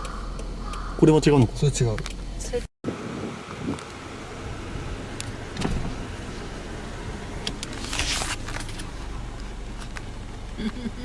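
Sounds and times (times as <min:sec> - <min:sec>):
car interior low rumble: 0:00.0 - 0:11.0.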